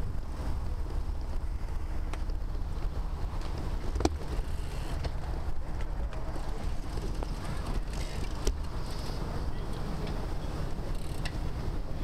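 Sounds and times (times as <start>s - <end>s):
bicycle clicks and knocks: 0.0s - 11.6s
road rumble: 0.0s - 12.0s
wind buffeting microphone: 0.0s - 12.0s.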